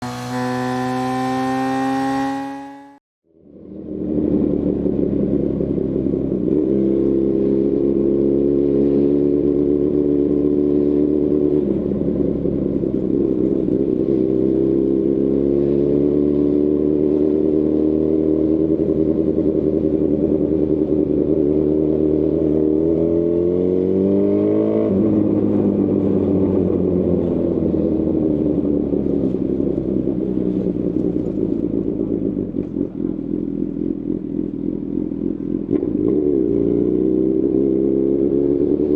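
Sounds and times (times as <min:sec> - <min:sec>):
motorcycle engine revving: 0:00.0 - 0:03.0, 0:03.7 - 0:38.9.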